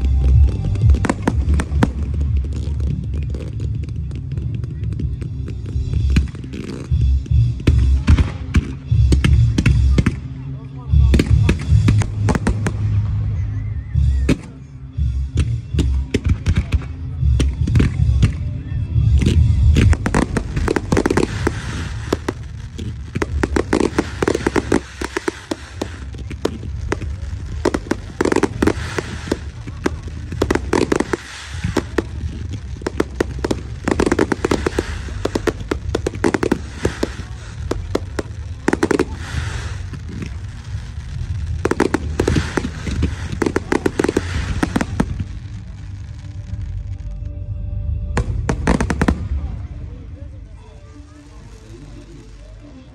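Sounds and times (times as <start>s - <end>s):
fireworks bangs and crackling: 0.0s - 47.4s, 48.1s - 52.9s
low rumble: 0.0s - 52.9s.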